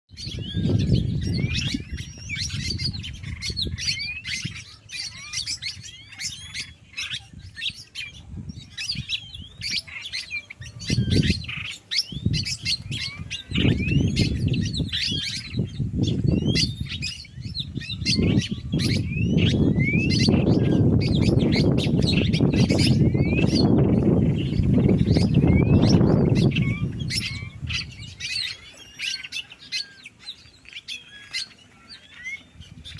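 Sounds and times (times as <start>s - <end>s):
many birds chirping: 0.1s - 32.9s.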